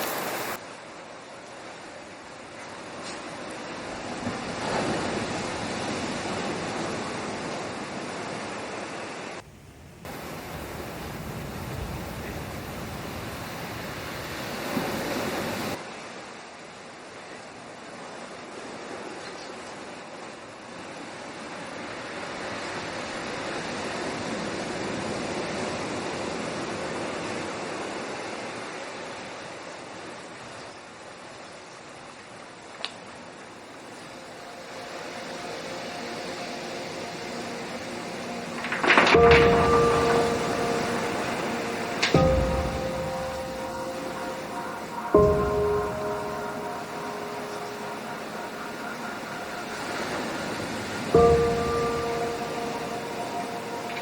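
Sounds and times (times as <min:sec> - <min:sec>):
rush of moving water: 0:00.0 - 0:54.0
sea waves: 0:00.0 - 0:54.0.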